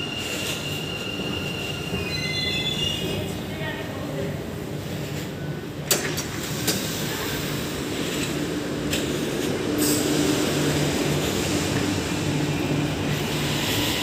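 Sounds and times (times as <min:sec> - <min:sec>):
metro train humming: 0:00.0 - 0:14.0.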